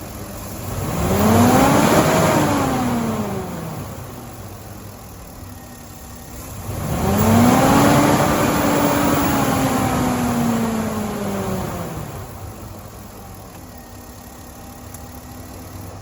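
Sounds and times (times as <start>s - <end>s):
pickup engine idling and revving: 0.0s - 16.0s.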